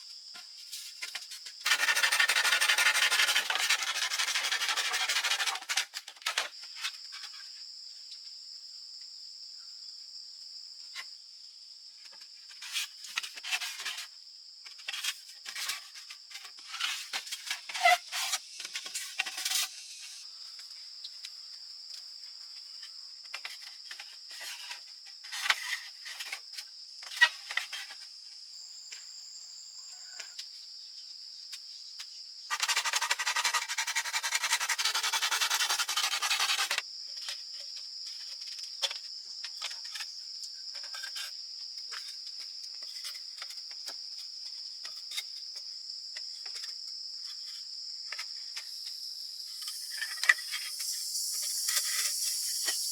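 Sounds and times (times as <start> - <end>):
high-pitched insect chorus: 0.0 - 8.8, 9.4 - 52.9.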